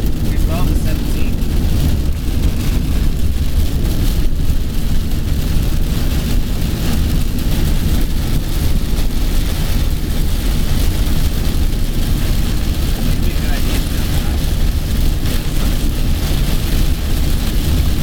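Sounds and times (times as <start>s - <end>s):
heavy rain on a car: 0.0s - 18.0s
road and tyre noise: 0.0s - 18.0s.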